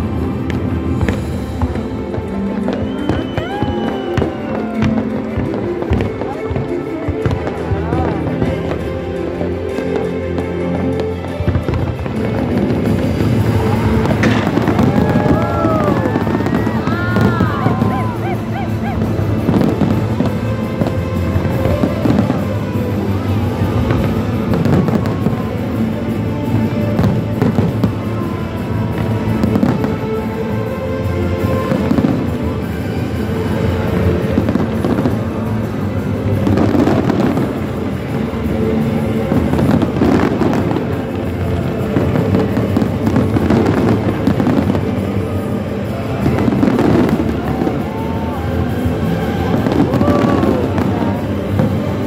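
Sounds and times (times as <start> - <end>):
fireworks bangs: 0.0 - 10.6, 11.2 - 52.0
music playing: 0.0 - 52.0.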